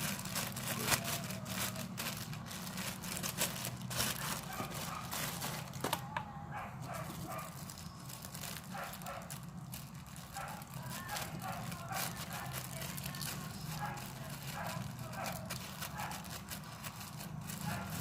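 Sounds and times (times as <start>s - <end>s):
plastic packaging crinkling: 0.0s - 6.1s, 6.8s - 18.0s.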